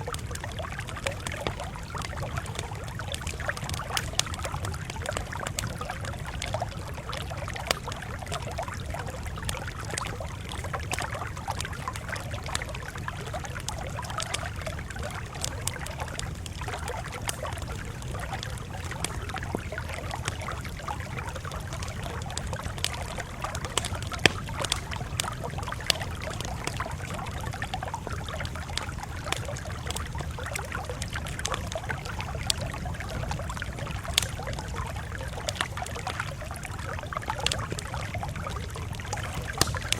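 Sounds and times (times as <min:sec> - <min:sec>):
campfire crackling and popping: 0:00.0 - 0:39.9
low constant rumble: 0:00.0 - 0:39.9.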